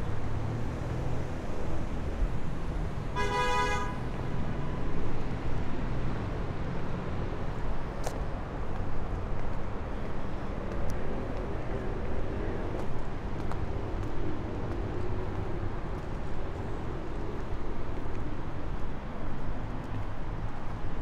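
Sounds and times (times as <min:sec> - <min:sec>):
distant road traffic: 0:00.0 - 0:21.0.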